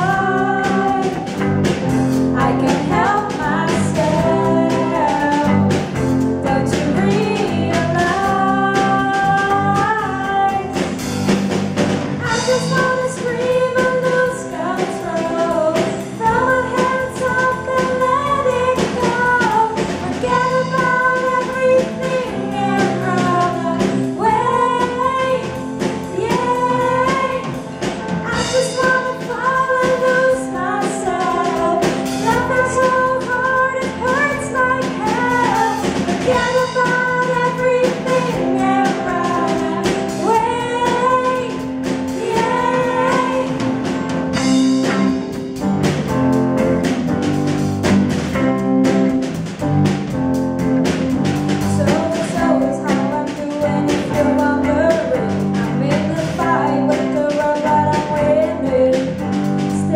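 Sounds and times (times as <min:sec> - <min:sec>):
female vocals singing: 0:00.0 - 0:01.4, 0:02.3 - 0:05.8, 0:06.4 - 0:11.0, 0:12.2 - 0:27.6, 0:28.2 - 0:43.7, 0:51.6 - 0:59.9
drum kit: 0:00.0 - 0:59.9
keyboard: 0:00.0 - 0:59.9.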